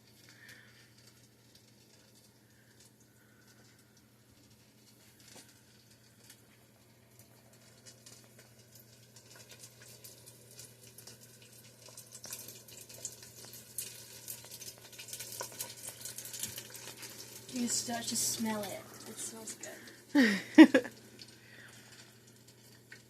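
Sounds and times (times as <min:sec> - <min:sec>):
oil sizzling and crackling: 0:00.0 - 0:23.0.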